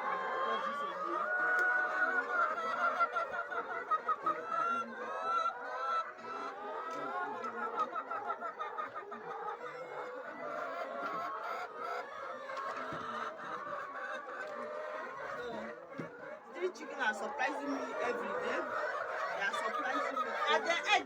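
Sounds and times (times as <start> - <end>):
hens clucking and calling: 0.0 - 21.0.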